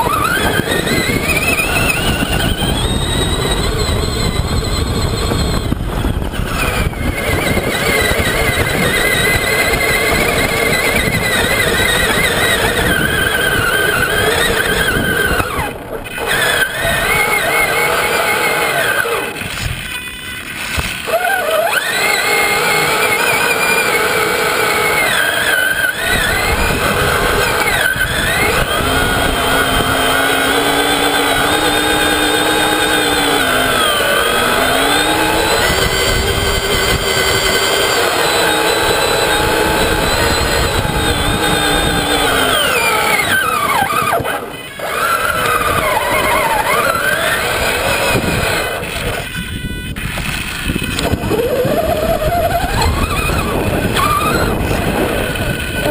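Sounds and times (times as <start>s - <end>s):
rc truck electric motor whining: 0.0s - 55.9s.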